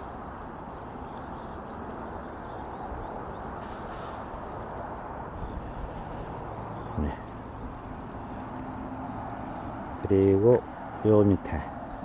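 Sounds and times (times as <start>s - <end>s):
insects chirring: 0.0s - 12.0s
low background rush: 0.0s - 12.0s.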